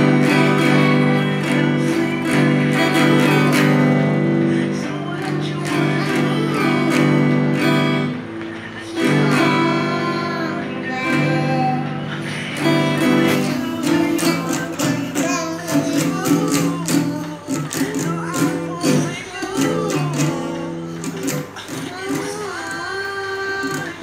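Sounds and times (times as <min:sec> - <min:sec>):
child singing: 0:00.0 - 0:08.2, 0:08.8 - 0:24.0
acoustic guitar strumming: 0:00.0 - 0:24.0.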